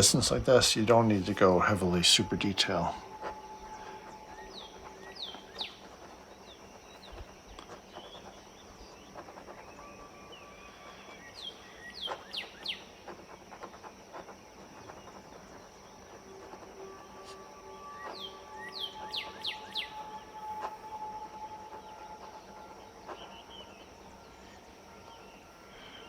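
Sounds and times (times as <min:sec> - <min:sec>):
birds chirping: 0:00.0 - 0:26.0
faint high-pitched hum: 0:00.0 - 0:26.0.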